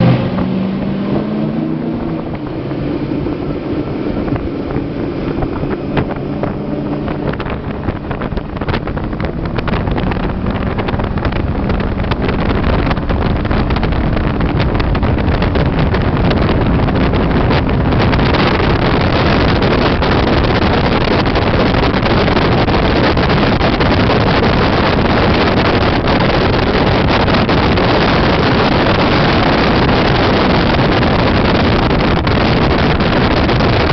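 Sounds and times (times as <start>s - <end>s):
boat engine: 0.0s - 33.9s
water rushing: 0.0s - 33.9s
wind on microphone: 0.0s - 33.9s.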